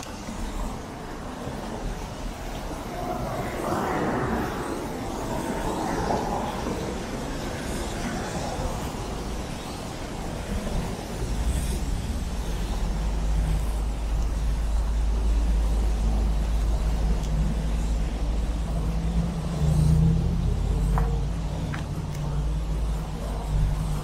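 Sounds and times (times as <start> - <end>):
heavy vehicle engine rumbling: 0.0 - 24.0
road traffic: 0.0 - 24.0.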